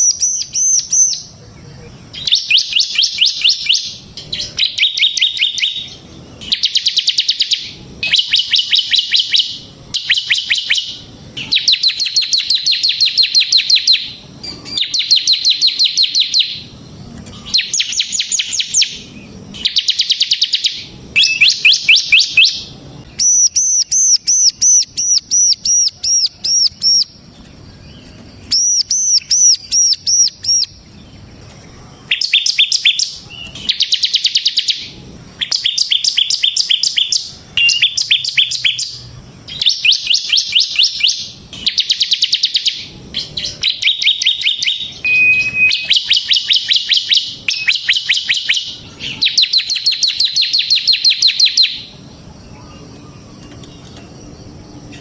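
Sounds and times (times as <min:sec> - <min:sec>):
bird singing high clear notes: 0:00.0 - 0:27.2, 0:32.1 - 0:55.0
bird fast drilling trills: 0:02.0 - 0:31.0, 0:32.0 - 0:52.0.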